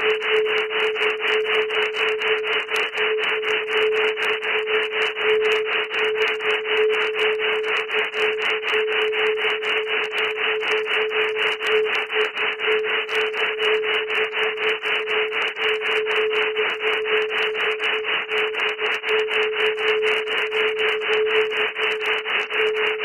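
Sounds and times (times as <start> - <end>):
steady mid-pitched hum: 0.0 - 23.0.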